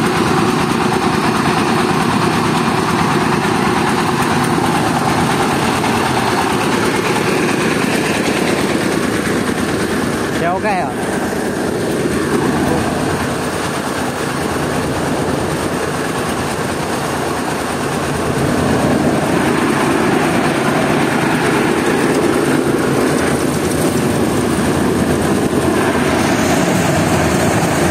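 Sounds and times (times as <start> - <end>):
rice mill machinery running: 0.0 - 27.9.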